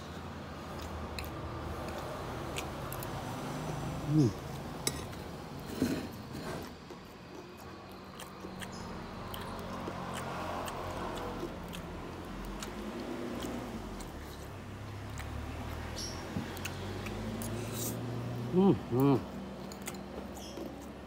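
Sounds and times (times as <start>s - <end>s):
person chewing: 0.6s - 4.7s, 6.6s - 21.0s.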